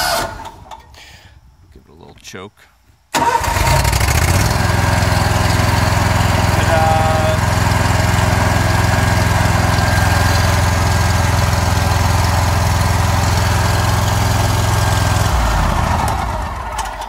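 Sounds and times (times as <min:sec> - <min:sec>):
mower engine running: 0:03.2 - 0:17.0.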